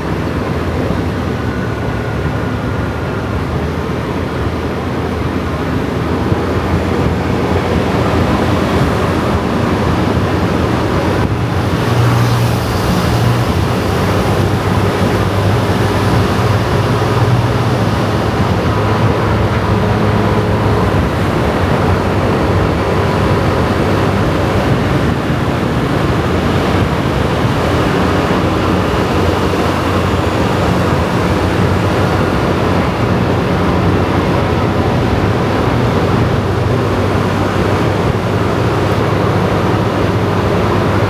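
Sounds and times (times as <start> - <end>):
motorcycle engine running: 0.0 - 41.0
road and traffic noise: 0.0 - 41.0.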